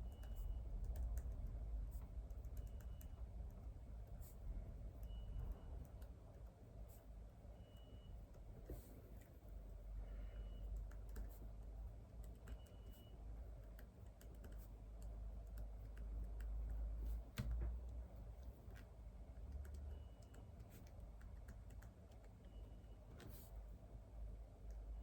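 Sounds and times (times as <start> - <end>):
faint typing on computer keyboard: 0.0 - 25.0.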